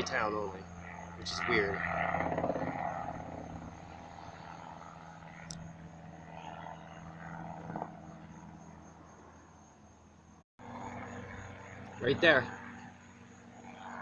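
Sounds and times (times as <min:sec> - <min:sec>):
helicopter drone: 0:00.0 - 0:14.0.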